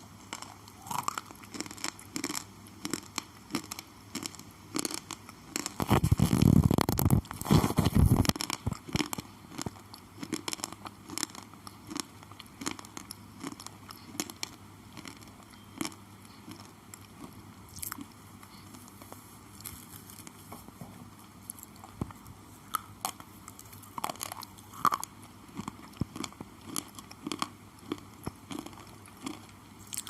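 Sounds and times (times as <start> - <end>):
pencil being chewed crunching: 0.3 - 20.4, 21.5 - 30.0.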